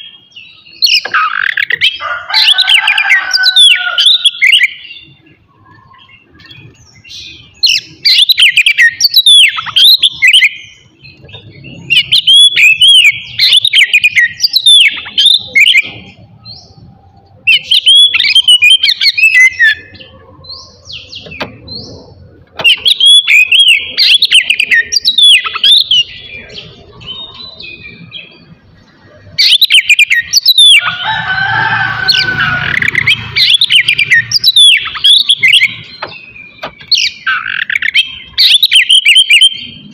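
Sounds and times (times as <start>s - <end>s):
songbird whistling song: 0.0s - 16.8s, 17.5s - 28.4s, 29.4s - 31.1s, 32.1s - 39.9s.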